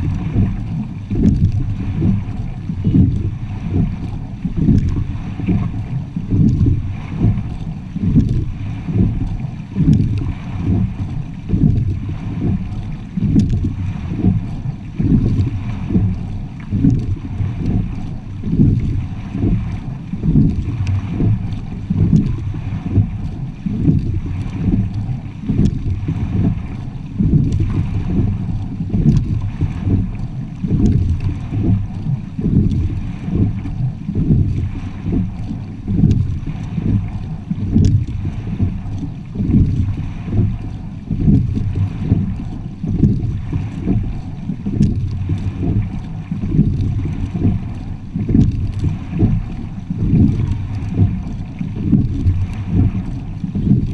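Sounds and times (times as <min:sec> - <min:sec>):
water rushing along boat hull: 0:00.0 - 0:53.9
wind buffeting microphone: 0:00.0 - 0:53.9.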